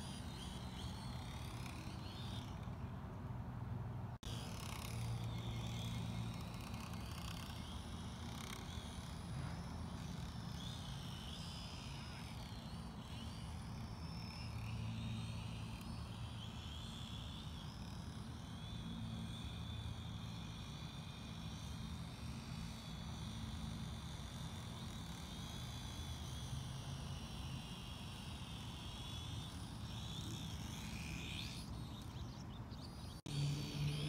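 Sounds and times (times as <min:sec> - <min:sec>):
drone propellers whining: 0:00.0 - 0:02.9, 0:04.2 - 0:34.0.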